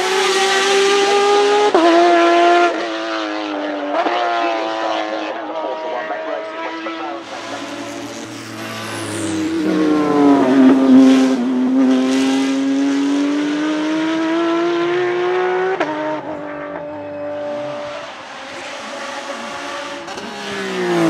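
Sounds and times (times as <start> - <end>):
racing car engine accelerating: 0.0 - 21.0.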